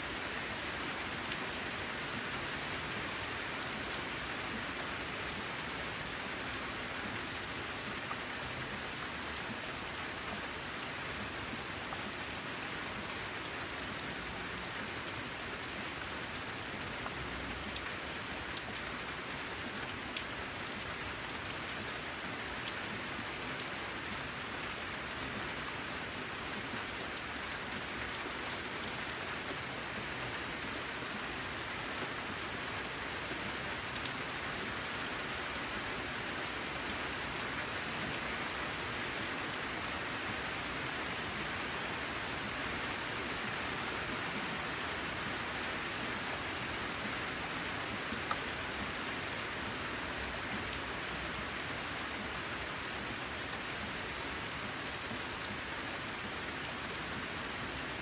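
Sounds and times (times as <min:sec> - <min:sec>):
rain on a metal roof: 0:00.0 - 0:58.0.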